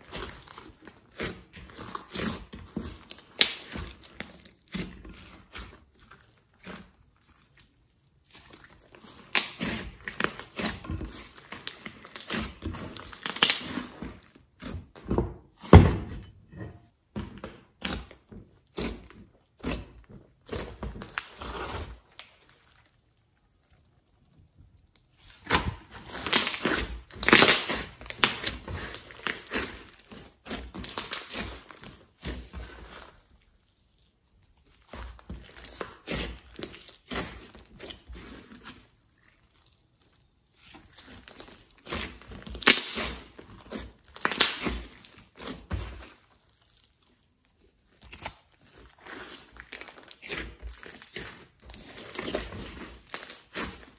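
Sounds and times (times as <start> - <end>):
slime squelching and crackling: 0.0 - 16.1, 17.0 - 53.9.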